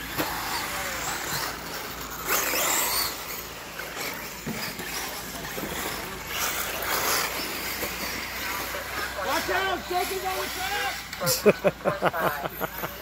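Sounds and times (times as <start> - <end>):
rc cars tyres and motors hissing: 0.0 - 13.0.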